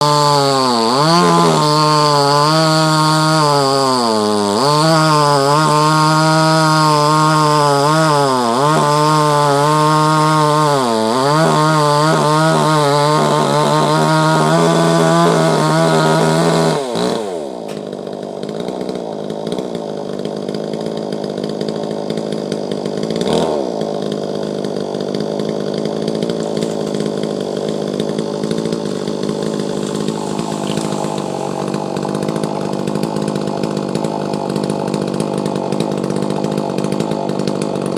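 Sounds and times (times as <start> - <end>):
chainsaw cutting wood: 0.0 - 37.9.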